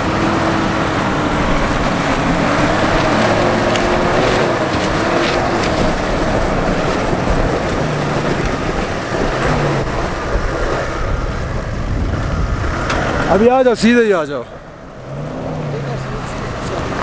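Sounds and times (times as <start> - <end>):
jeep engine at low speed: 0.0 - 17.0
tires crawling over loose rocks: 0.0 - 17.0.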